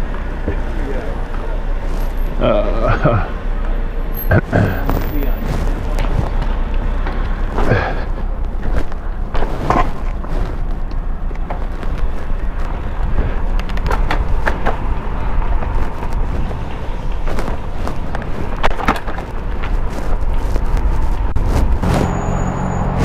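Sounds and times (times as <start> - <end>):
tyre and road rumble: 0.0 - 23.0
wind rushing over microphone: 4.3 - 23.0.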